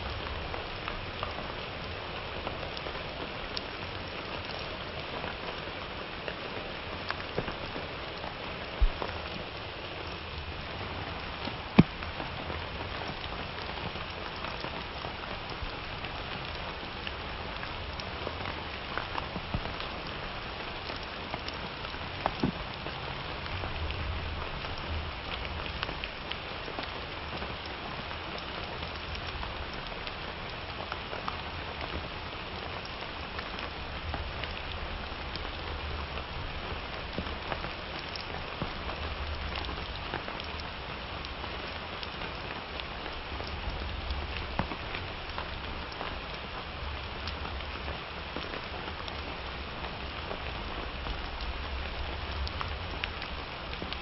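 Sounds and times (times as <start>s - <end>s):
rain hiss: 0.0s - 54.0s.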